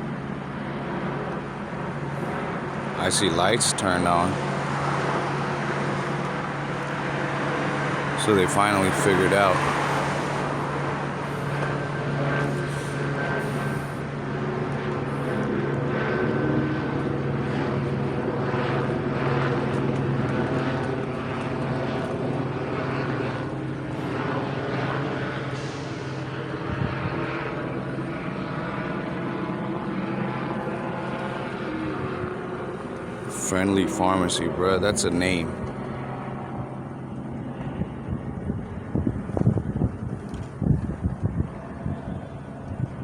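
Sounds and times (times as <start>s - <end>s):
engine drone: 0.0s - 43.0s.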